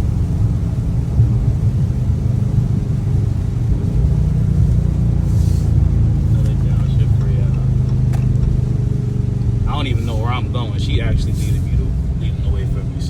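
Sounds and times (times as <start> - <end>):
car engine droning: 0.0 - 13.0
road rumble: 0.0 - 13.0.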